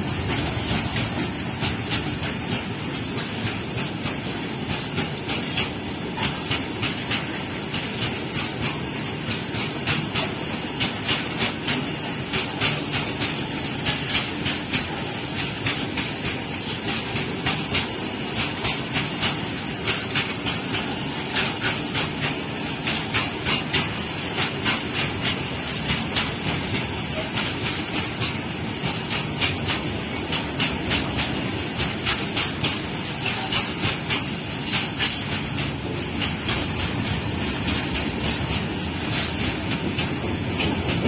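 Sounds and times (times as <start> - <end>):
freight wagons rolling on rails: 0.0 - 41.0
wheels clicking over rail joints: 0.0 - 41.0.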